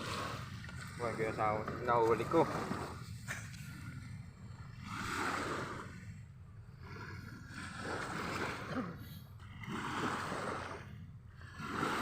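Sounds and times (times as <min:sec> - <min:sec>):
steady low rumble: 0:00.0 - 0:11.6
small waves washing in: 0:00.0 - 0:12.0.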